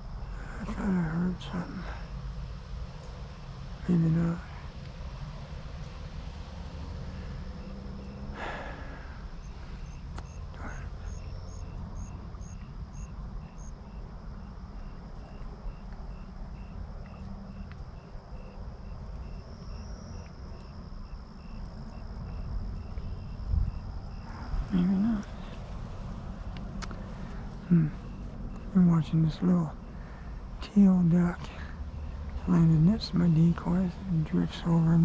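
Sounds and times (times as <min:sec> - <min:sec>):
crickets chirping: 0:00.0 - 0:35.0
low steady rumble: 0:00.0 - 0:35.0.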